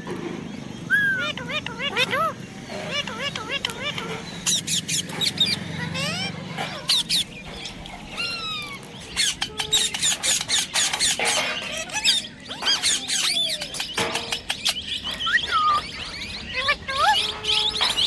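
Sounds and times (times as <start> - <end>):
baby parrot chirping and squawking: 0.9 - 18.0.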